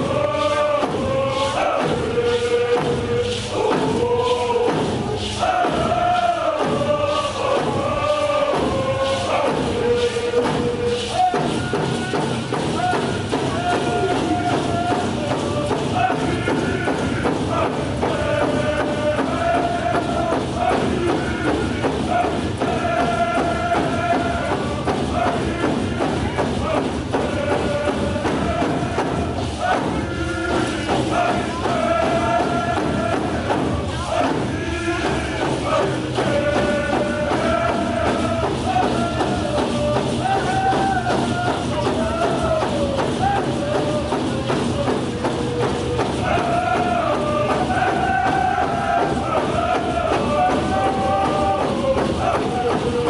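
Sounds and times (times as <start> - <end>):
group of voices singing: 0.0 - 53.0
hand drum beats: 0.0 - 53.0.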